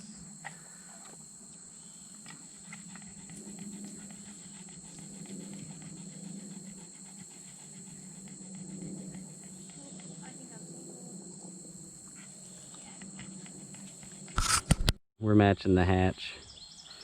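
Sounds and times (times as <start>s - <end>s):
insects trilling: 0.0s - 14.4s.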